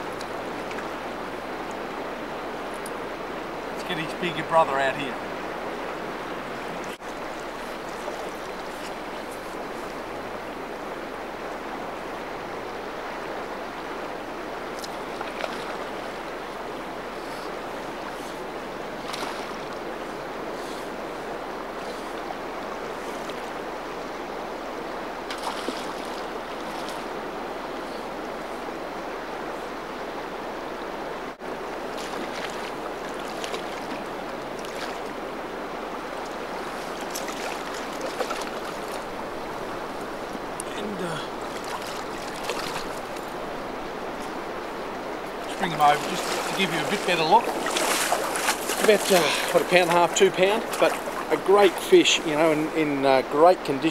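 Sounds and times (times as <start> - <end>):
river flowing: 0.0 - 53.9
water splashes: 0.0 - 53.9.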